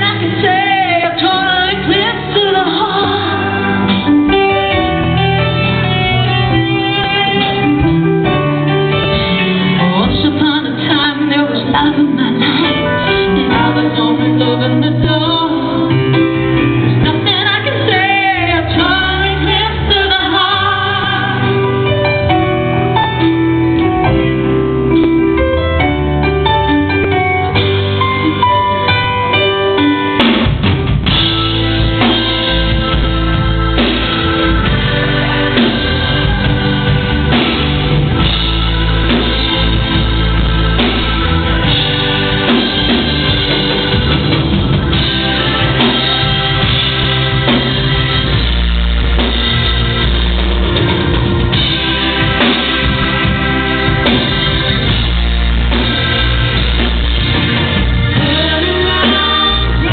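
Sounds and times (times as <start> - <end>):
drum kit: 0.0 - 59.9
keyboard notes: 0.0 - 59.9
live rock band playing: 0.0 - 59.9.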